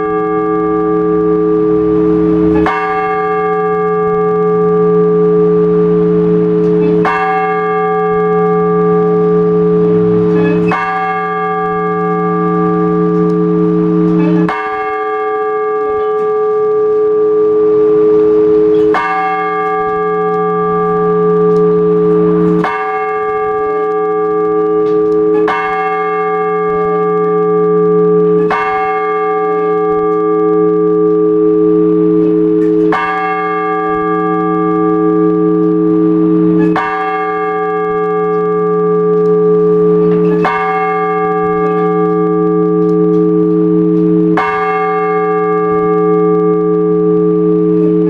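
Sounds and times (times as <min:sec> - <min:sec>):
church bells ringing: 0:00.0 - 0:48.0
deep bass bell: 0:00.0 - 0:48.0.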